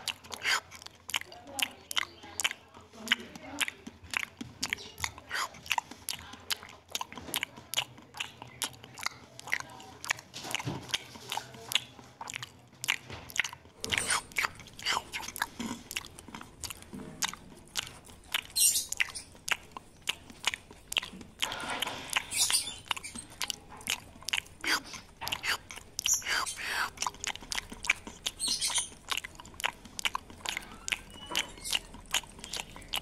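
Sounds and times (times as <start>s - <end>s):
monkey chewing wetly: 0.0s - 33.0s.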